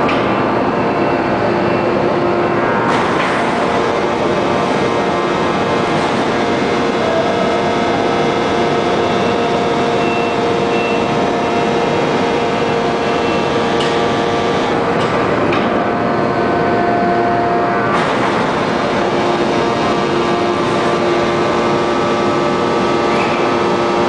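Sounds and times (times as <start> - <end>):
forging press machinery noise: 0.0 - 24.0.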